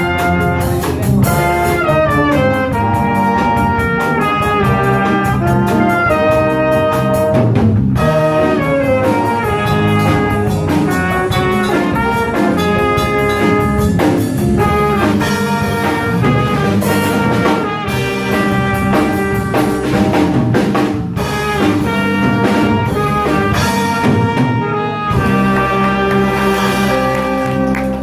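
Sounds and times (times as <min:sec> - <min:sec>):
jazz band playing: 0:00.0 - 0:28.0.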